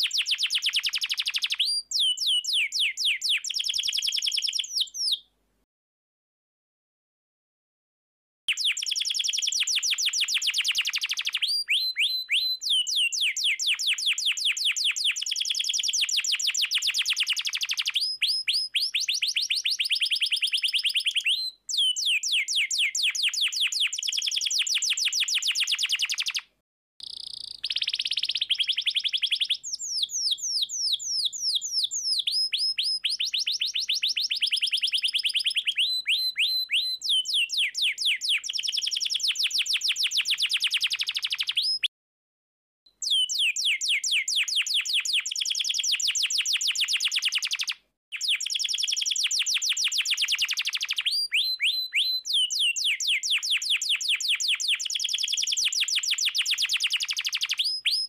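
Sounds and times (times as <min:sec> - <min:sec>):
canary singing trills: 0:00.0 - 0:05.2, 0:08.5 - 0:26.4, 0:27.0 - 0:41.9, 0:43.0 - 0:58.0.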